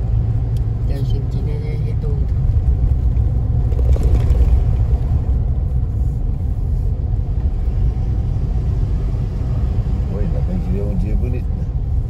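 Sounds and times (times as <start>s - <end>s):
car driving road noise: 0.0s - 12.0s.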